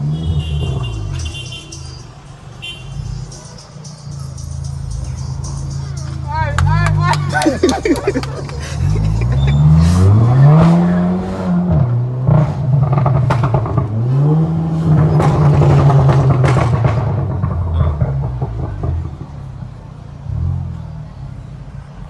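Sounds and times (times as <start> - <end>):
exhaust cracks: 0.0 - 20.9
car engine revving: 0.0 - 22.0.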